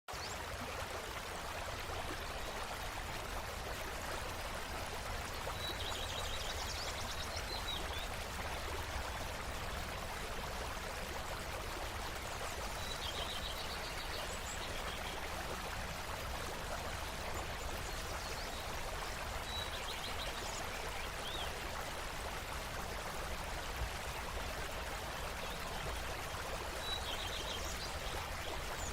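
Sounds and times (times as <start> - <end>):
stream running: 0.1 - 28.9.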